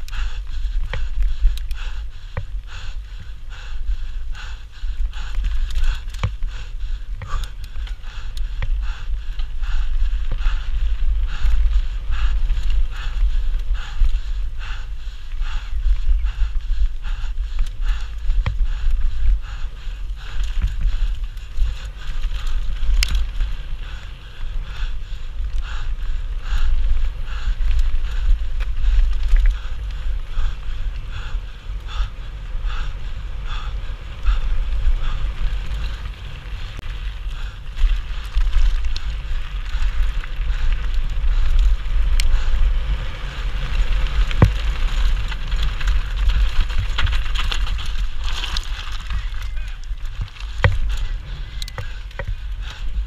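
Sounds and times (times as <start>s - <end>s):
bike rattling: 0.0s - 53.0s
tyres on dirt: 0.0s - 53.0s
wind buffeting microphone: 0.0s - 53.0s.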